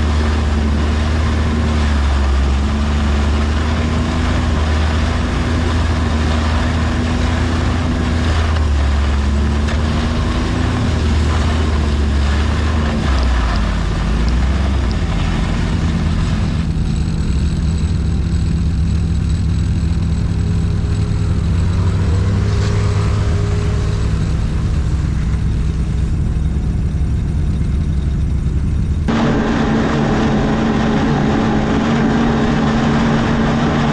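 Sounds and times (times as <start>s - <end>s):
vehicle engine running under load: 0.0s - 33.9s.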